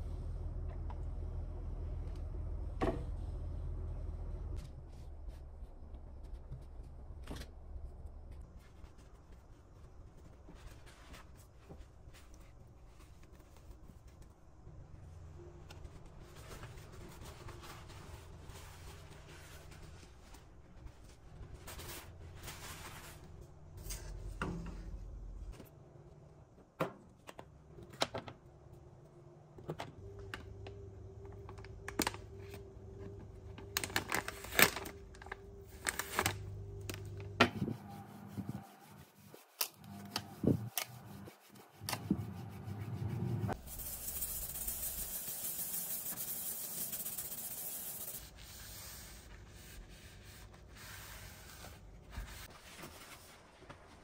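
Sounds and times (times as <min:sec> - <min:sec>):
low steady hum: 0:00.0 - 0:26.6, 0:27.5 - 0:45.1.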